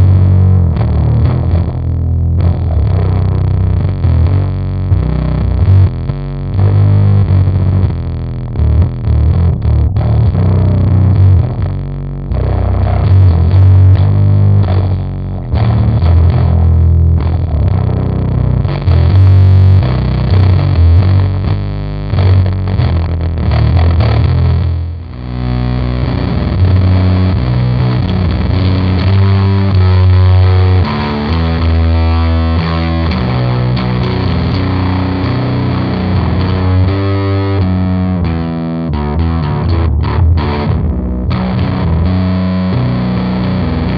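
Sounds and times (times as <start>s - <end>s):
distorted guitar riffs: 0.0s - 43.9s.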